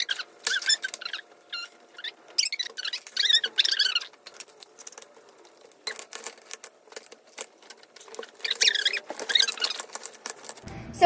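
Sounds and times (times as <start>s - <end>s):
wood squeaking on wood: 0.0s - 10.6s.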